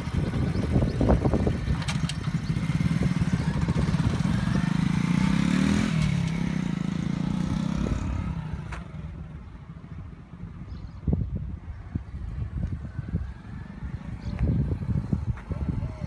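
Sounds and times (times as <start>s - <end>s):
motorcycle passing by: 0.0s - 10.8s, 11.7s - 16.0s.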